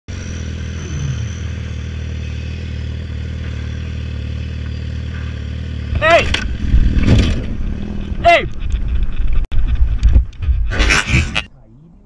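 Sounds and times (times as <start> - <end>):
motorcycle engine running: 0.1 - 10.7.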